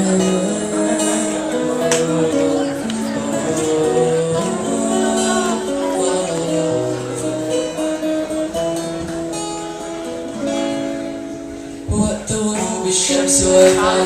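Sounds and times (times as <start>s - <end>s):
plucked string instrument melody: 0.0s - 14.0s.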